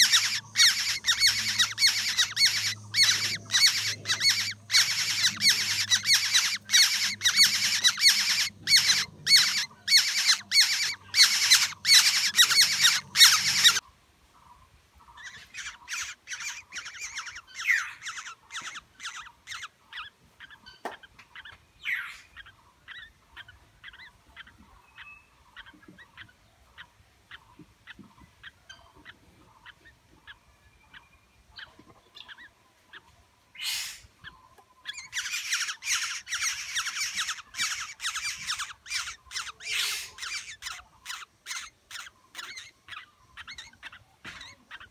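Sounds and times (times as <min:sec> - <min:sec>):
rapid harsh bird calls: 0:00.0 - 0:13.8, 0:15.0 - 0:44.9
faint short bird calls: 0:00.0 - 0:44.9.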